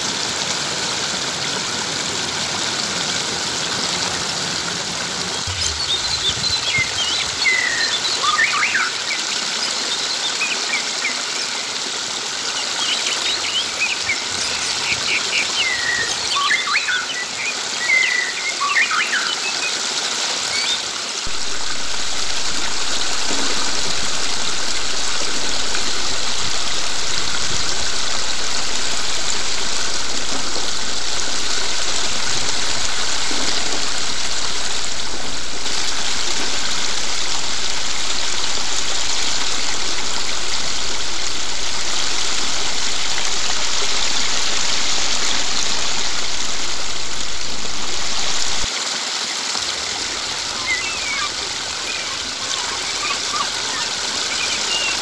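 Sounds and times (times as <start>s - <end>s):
stream splashing over stones: 0.0s - 55.0s.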